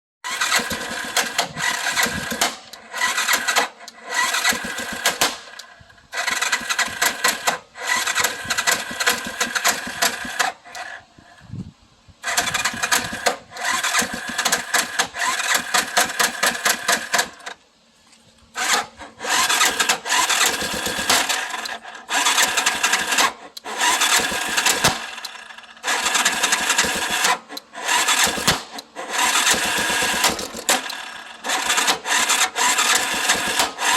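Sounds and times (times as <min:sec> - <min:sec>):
engine cranking with metallic clatter: 0:00.2 - 0:11.0, 0:12.2 - 0:17.6, 0:18.5 - 0:33.9.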